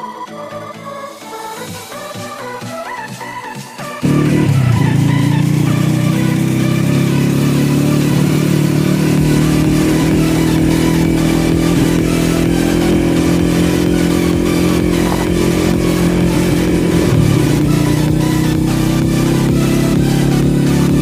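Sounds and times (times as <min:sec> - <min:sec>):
motorcycle engine running: 0:04.0 - 0:21.0.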